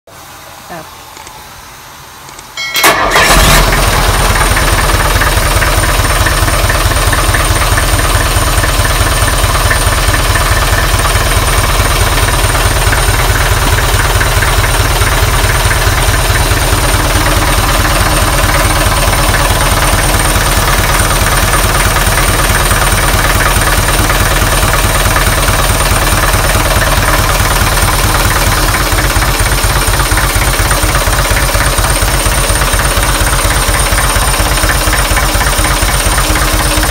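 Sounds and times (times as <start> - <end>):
diesel engine cranking and idling: 2.3 - 36.9.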